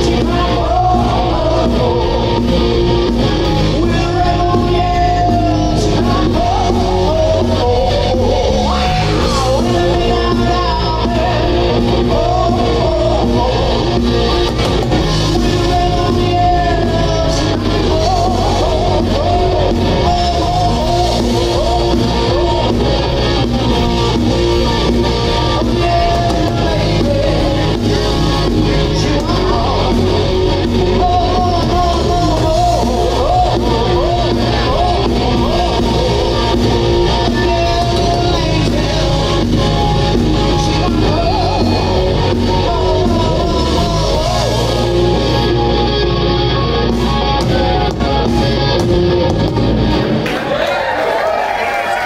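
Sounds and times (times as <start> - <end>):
person singing into microphone: 0.0 - 48.6
distorted electric guitar: 0.0 - 50.7
drum kit: 0.0 - 50.8
bass guitar: 0.0 - 52.0.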